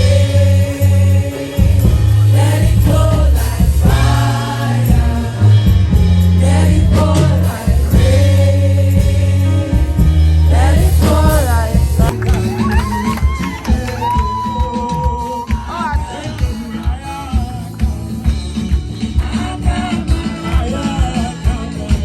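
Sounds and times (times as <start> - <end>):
band with strong bass line: 0.0 - 22.0
choir singing gospel music: 0.0 - 22.0.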